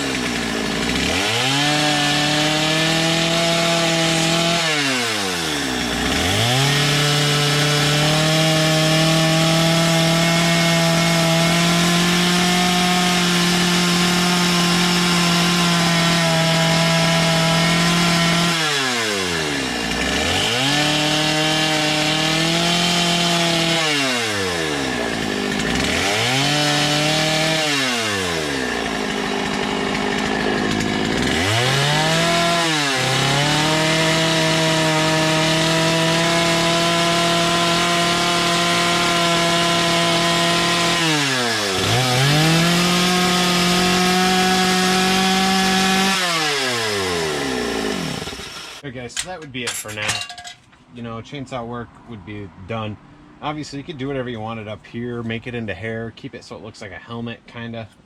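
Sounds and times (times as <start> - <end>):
chainsaw carving wood: 0.0 - 48.8.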